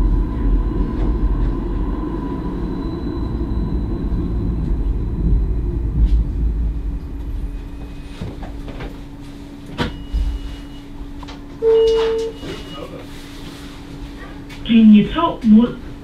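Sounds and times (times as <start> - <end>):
standing tram hum: 0.0 - 16.0
tram running rumble with motor whine: 0.0 - 16.0.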